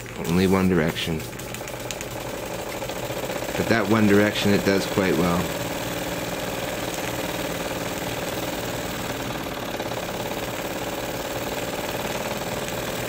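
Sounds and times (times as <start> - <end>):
toy steam engine running: 0.0 - 13.0.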